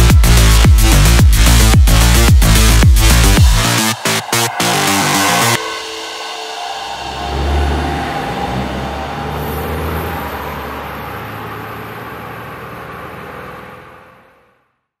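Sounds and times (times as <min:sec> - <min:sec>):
cars driving away: 0:00.0 - 0:14.7.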